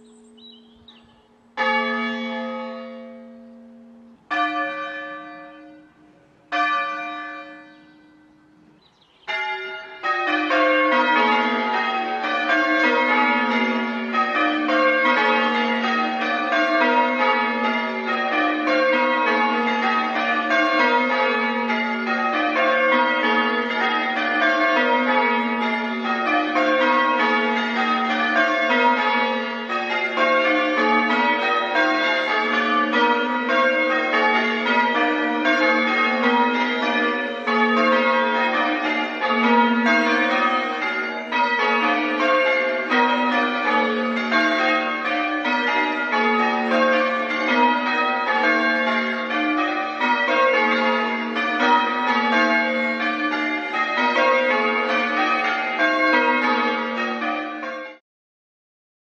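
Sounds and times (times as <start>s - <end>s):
church bells change ringing: 0.0s - 58.0s.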